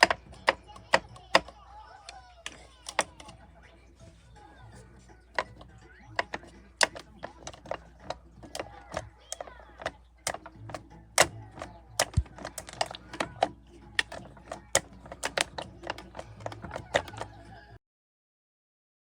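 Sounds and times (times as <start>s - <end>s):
sharp clicks and taps: 0.0s - 3.4s, 5.3s - 17.5s.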